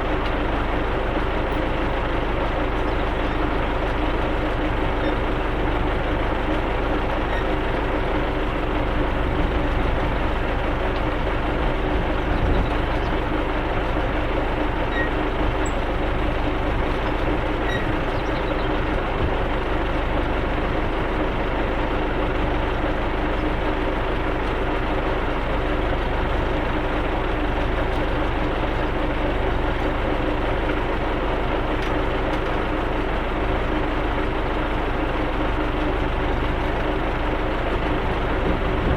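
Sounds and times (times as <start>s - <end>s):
tractor diesel engine droning: 0.0s - 38.9s.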